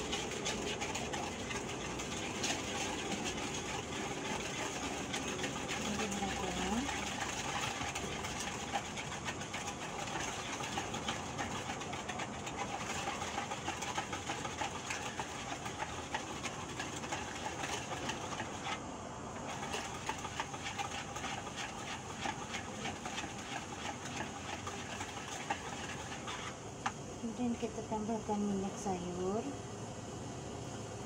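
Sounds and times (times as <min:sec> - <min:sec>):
utensil stirring batter in bowl: 0:00.0 - 0:28.6.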